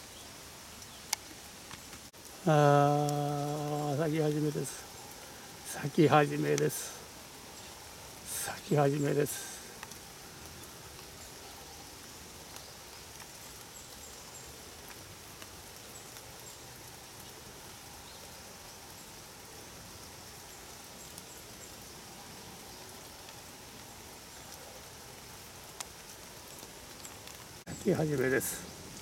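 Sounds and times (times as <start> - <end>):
rain pattering on umbrella: 0.0 - 29.0
single louder raindrops: 0.0 - 29.0.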